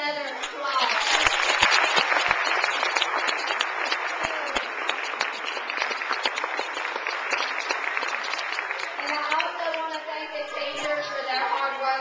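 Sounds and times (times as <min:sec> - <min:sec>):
audience applauding: 0:00.5 - 0:11.7.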